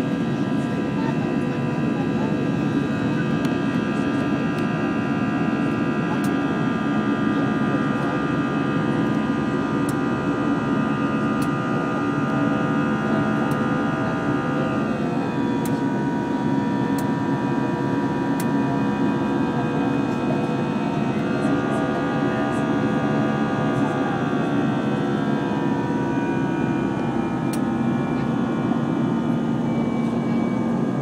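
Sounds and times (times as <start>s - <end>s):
engine and airflow rush: 0.0s - 31.0s
high engine tones: 0.0s - 31.0s.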